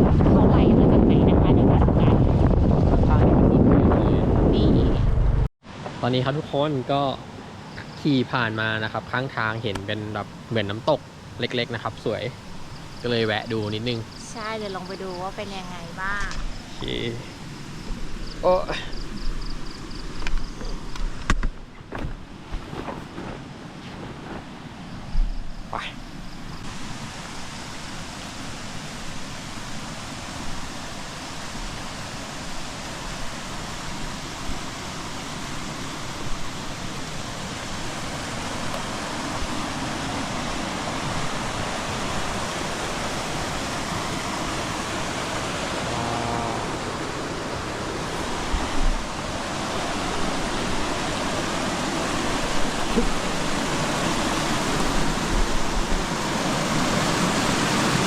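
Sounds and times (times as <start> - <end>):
waterfall and rapids rushing: 5.6 - 21.4, 25.7 - 58.0.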